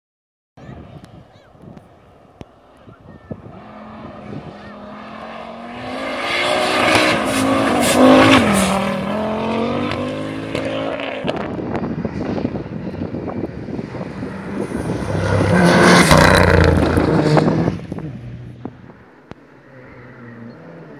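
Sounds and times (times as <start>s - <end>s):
rally car engine passing: 3.3s - 20.9s.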